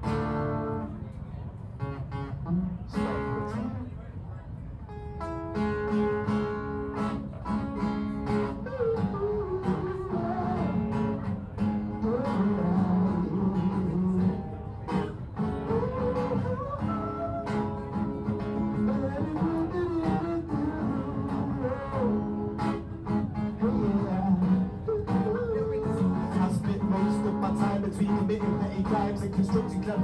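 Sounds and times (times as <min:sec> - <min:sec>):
bending guitar melody: 0:04.9 - 0:30.0
strummed guitar chords: 0:04.9 - 0:30.0.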